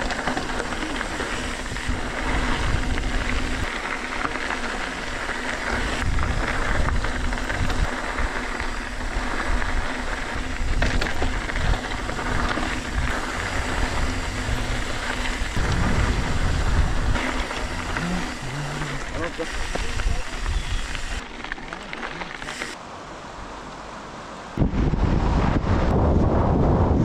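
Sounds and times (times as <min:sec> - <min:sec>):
wind rumbling on microphone: 0:00.0 - 0:21.2, 0:24.6 - 0:27.0
bike rattling: 0:00.0 - 0:22.8
bike tyres crunching on gravel: 0:00.0 - 0:22.8.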